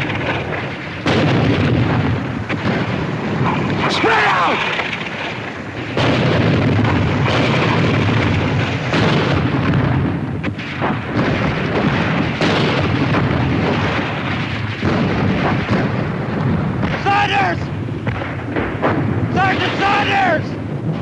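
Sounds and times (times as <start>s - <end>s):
continuous artillery rumble: 0.0s - 21.0s
shell explosions: 0.0s - 21.0s.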